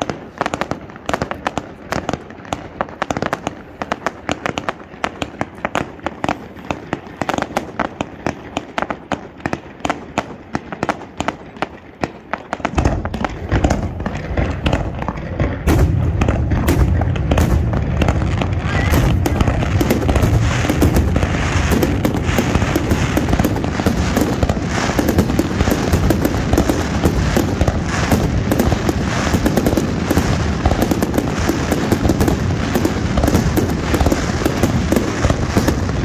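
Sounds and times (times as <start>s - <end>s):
deep rumble of fireworks bursts: 0.0s - 36.0s
fireworks crackling: 0.0s - 36.0s.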